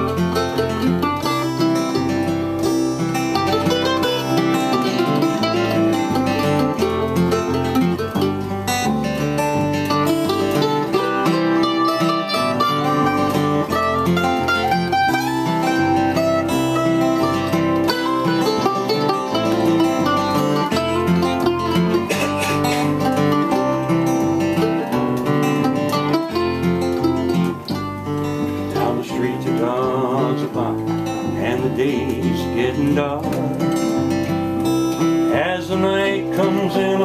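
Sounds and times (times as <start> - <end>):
acoustic guitar: 0.0 - 37.0
mandolin: 0.0 - 37.0.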